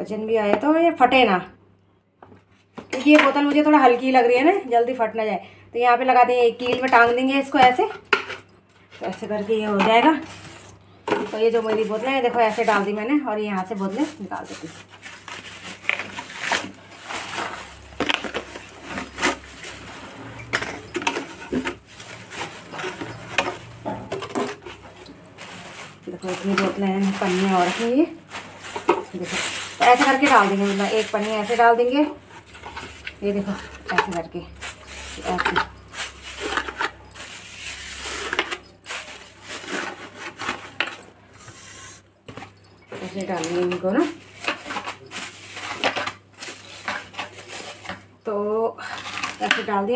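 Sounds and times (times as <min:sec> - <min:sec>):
plastic bags crinkling: 0:09.0 - 0:48.2, 0:48.8 - 0:49.9.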